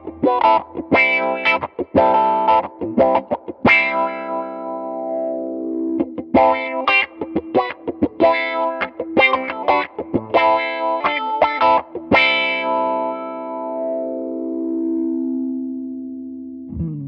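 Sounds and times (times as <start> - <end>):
electric guitar wah-wah chords: 0.0 - 15.9, 16.7 - 17.0.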